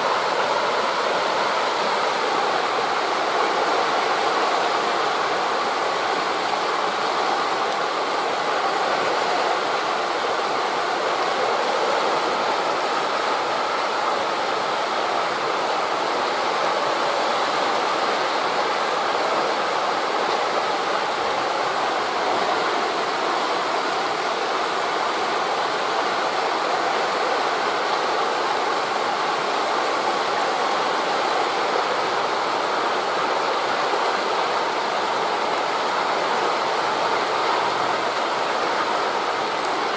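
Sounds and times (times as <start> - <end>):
surf on a beach: 0.0 - 39.9
wind through forest leaves: 0.0 - 39.9.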